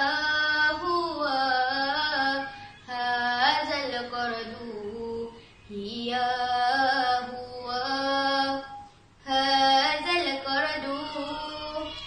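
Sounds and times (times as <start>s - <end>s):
girl singing a chanted verse: 0.0s - 12.0s.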